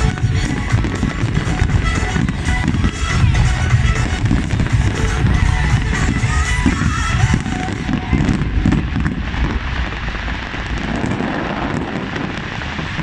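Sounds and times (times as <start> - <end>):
firework whistling glides: 0.0 - 13.0
fireworks bangs and crackle: 0.0 - 13.0.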